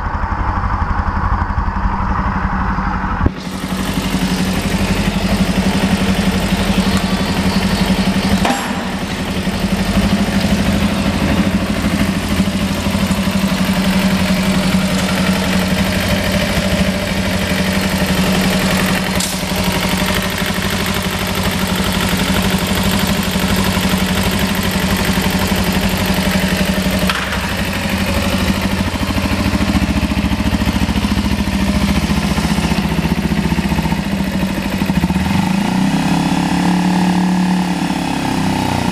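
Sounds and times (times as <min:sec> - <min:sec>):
motorcycle engine idling: 0:03.3 - 0:36.8.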